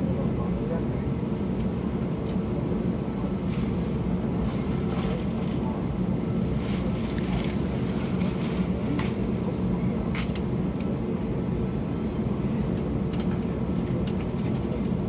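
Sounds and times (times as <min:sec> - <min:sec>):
jet engines idling in cabin: 0:00.0 - 0:15.0.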